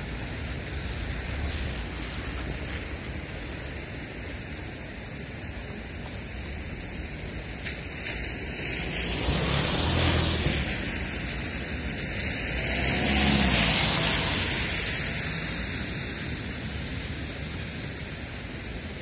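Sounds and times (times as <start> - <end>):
car tyres hissing on wet road: 0.0 - 19.0
wet street hiss: 0.0 - 19.0.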